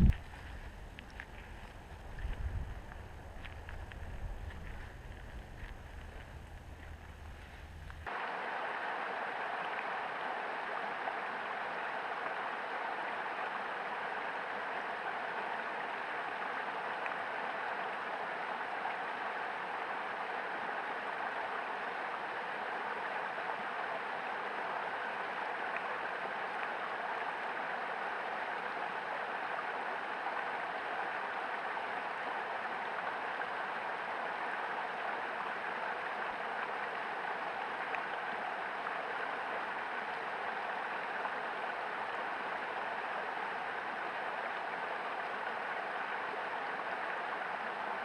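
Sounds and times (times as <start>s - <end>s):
creek water rushing: 0.0s - 48.0s.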